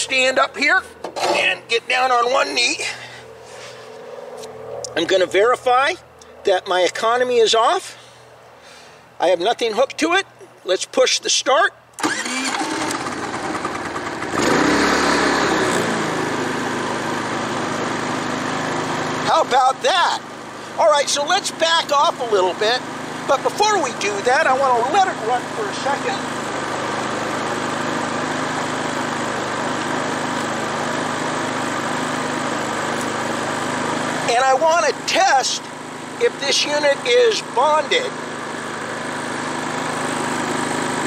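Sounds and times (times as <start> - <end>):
generator starting and running: 0.0 - 10.5, 11.7 - 41.0.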